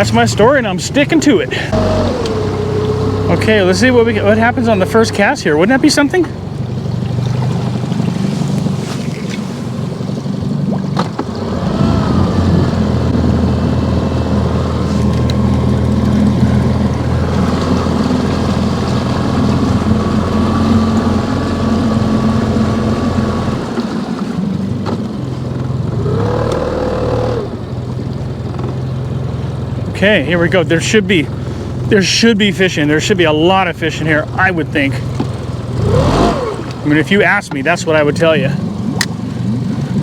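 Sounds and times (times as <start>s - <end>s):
boat motor running: 0.0s - 40.0s.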